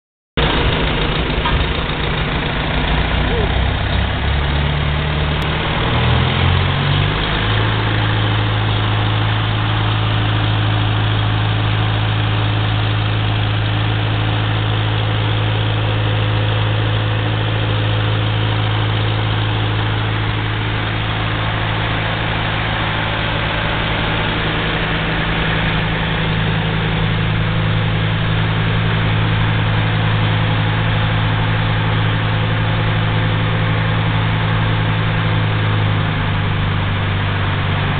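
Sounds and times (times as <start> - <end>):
tractor engine idling: 0.4 - 37.9.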